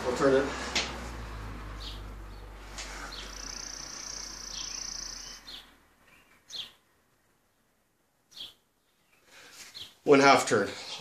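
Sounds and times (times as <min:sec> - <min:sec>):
small birds chirping: 0:01.7 - 0:11.0.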